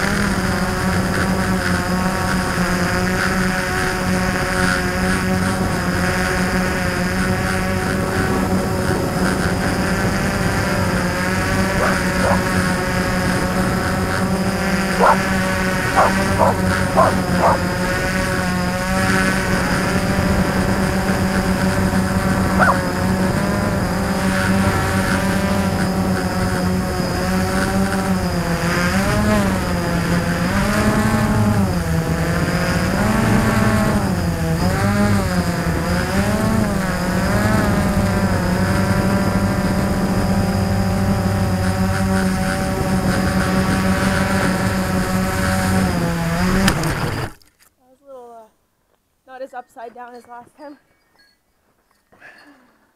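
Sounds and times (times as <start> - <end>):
quadcopter motors whining: 0.0 - 47.4.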